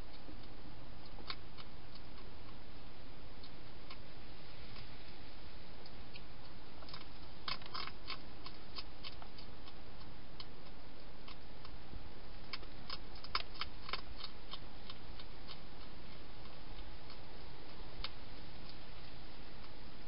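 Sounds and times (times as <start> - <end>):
hedgehog crunching dry food: 0.0 - 20.0
steady hiss: 0.0 - 20.0.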